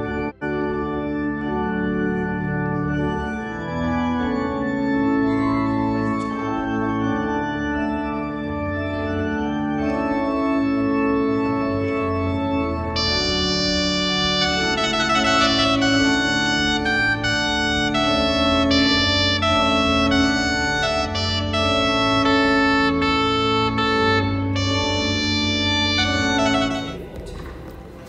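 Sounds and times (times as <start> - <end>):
organ playing slow chords: 0.0 - 27.8.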